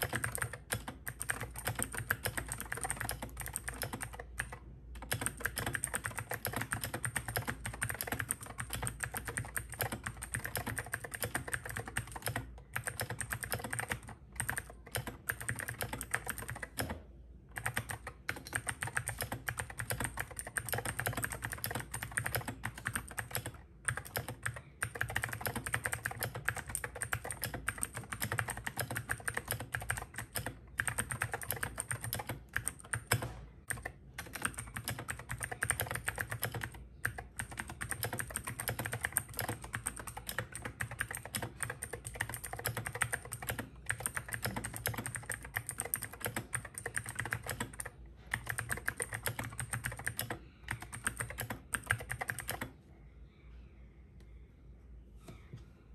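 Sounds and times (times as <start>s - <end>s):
mechanical keyboard typing: 0.0s - 52.7s.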